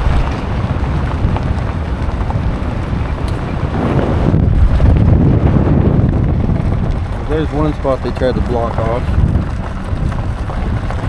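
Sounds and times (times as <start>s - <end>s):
vehicle rumble: 0.0s - 11.0s
wind buffeting microphone: 0.0s - 11.0s.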